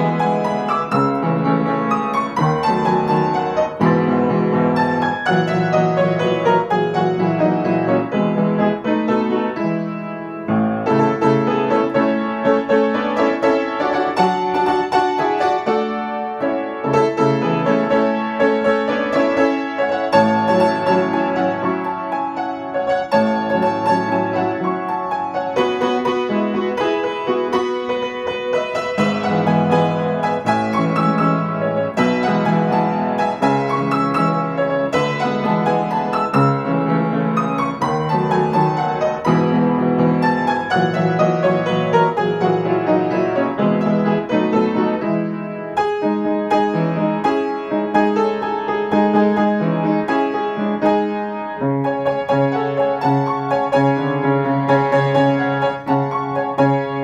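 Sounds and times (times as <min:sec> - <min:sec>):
piano playing fast runs: 0:00.0 - 0:57.0.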